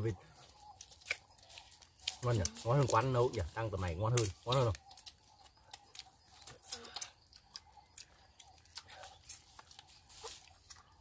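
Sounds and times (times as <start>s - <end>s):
eating clicks and tearing: 0.6s - 3.0s, 4.1s - 11.0s.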